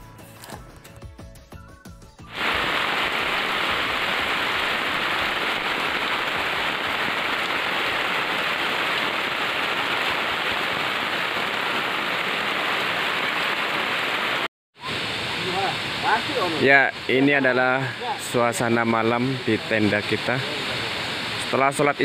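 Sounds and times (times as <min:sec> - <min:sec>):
steady rain falling: 0:02.3 - 0:22.0.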